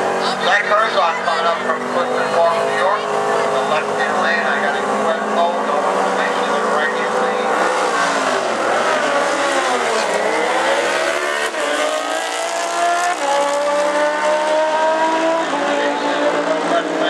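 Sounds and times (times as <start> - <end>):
motorcycle engines at full throttle: 0.0 - 17.0.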